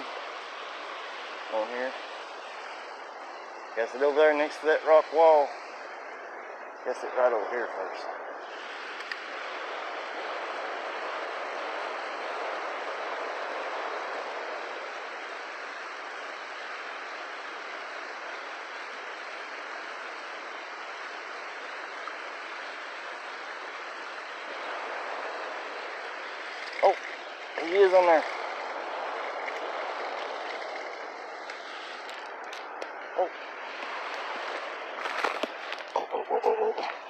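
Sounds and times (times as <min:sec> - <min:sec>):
creek water rushing over rocks: 0:00.0 - 0:37.0.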